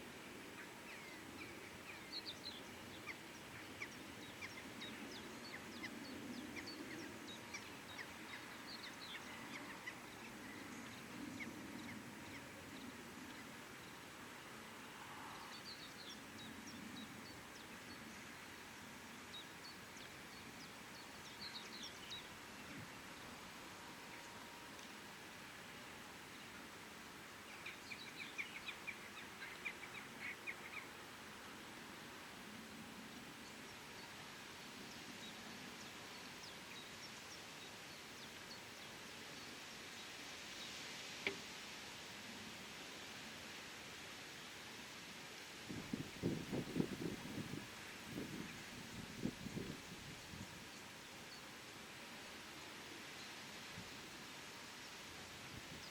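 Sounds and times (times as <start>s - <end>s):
outdoor background hiss: 0.0s - 55.9s.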